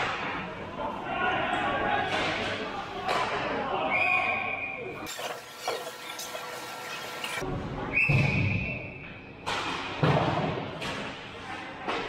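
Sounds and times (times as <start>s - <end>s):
low rink noise: 0.0s - 12.0s.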